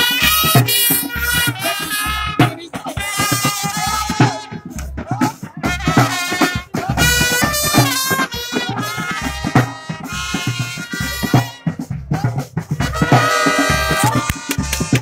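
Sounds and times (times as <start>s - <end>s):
drum kit beat: 0.0s - 15.0s
horns playing a melody: 0.0s - 15.0s.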